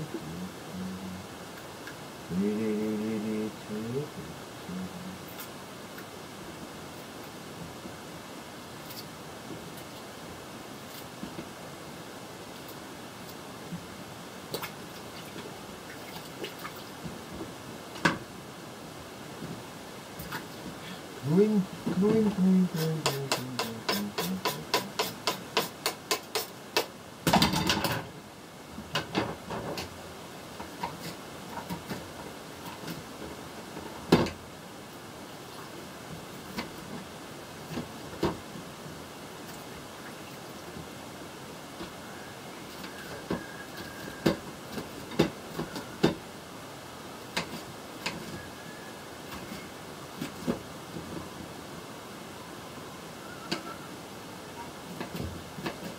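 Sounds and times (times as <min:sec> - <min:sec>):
low steady hiss: 0:00.0 - 0:55.9.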